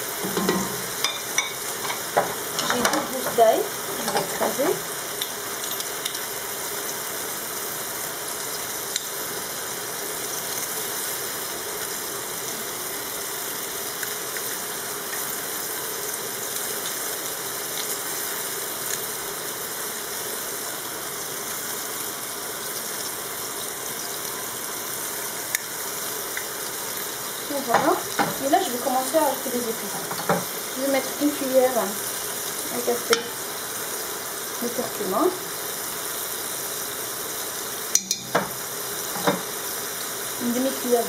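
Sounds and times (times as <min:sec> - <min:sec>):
food sizzling in oil: 0:00.0 - 0:41.0.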